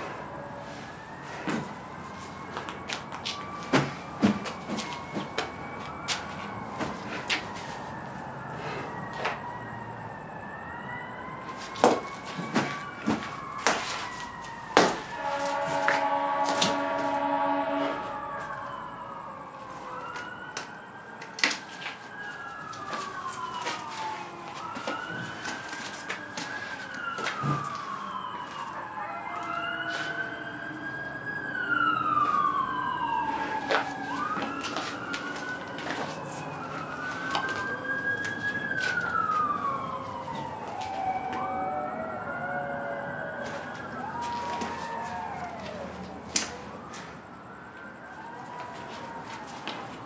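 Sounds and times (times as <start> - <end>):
wailing siren-like tone: 0.0 - 50.0.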